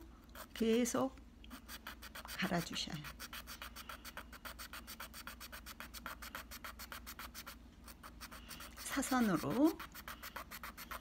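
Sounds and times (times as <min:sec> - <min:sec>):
nail rasping on sandpaper: 0:01.6 - 0:11.0.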